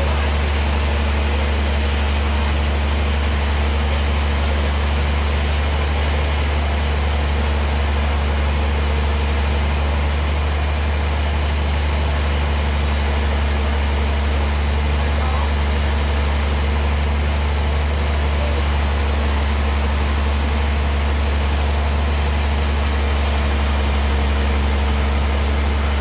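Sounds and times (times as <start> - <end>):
sawmill low hum: 0.0 - 26.0.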